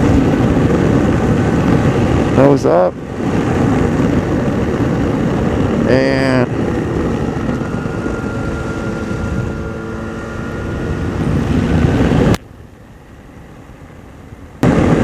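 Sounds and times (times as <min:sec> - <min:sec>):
wind noise: 0:00.0 - 0:12.5, 0:13.3 - 0:15.0
aircraft engine running: 0:00.0 - 0:15.0.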